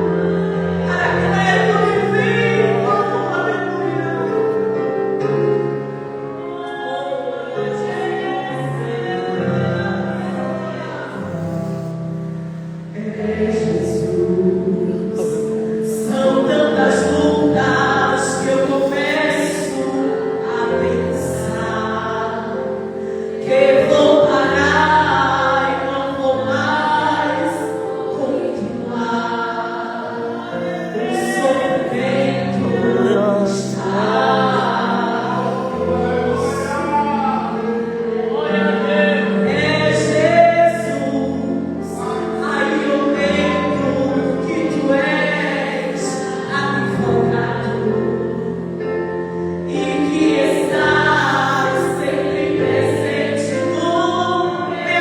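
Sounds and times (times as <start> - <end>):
choir singing gospel music: 0.0 - 55.0.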